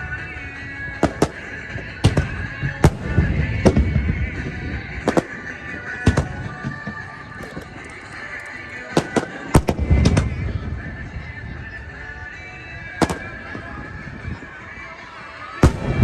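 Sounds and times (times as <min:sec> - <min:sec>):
music from loudspeakers: 0:00.0 - 0:16.0.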